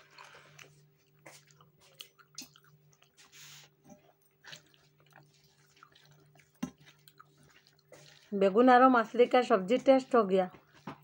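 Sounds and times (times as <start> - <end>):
faint chewing and wet mouth sounds: 0.0 - 11.0.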